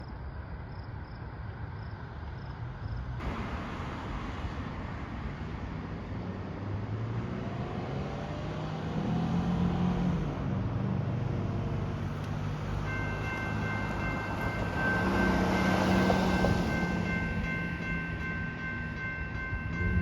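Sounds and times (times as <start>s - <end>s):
locomotive engine hum: 1.3s - 20.0s
train rumbling: 2.0s - 20.0s.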